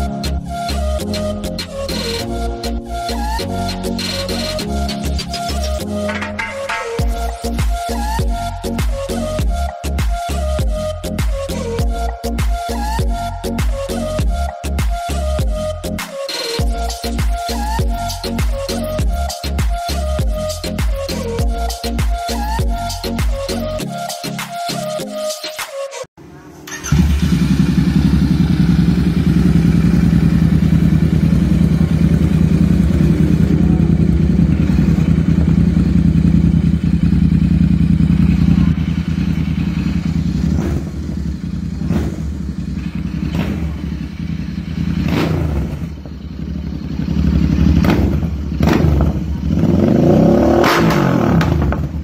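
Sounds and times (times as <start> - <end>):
motorcycle engine idling and revving: 0.0 - 16.0, 16.6 - 23.8, 26.2 - 52.0.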